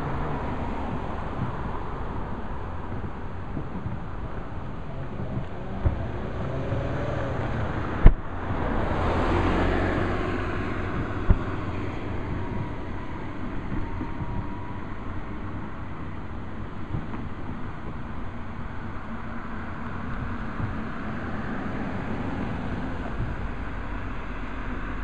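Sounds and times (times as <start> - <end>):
steady background rumble: 0.0 - 25.0.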